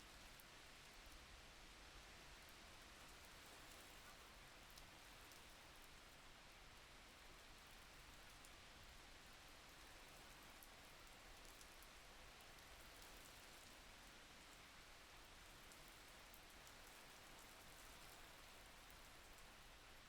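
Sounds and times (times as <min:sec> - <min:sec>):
faint steady rainfall: 0:00.0 - 0:20.0.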